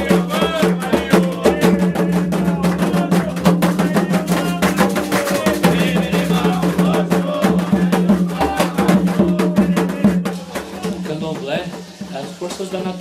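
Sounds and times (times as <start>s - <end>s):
hand drums playing rhythm: 0.0s - 13.0s
voices singing: 0.0s - 13.0s.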